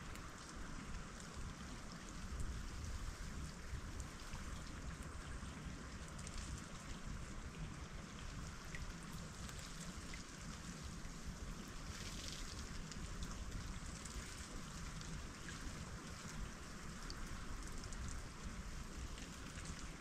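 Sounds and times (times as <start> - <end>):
melting ice ticking and dripping: 0.0 - 20.0.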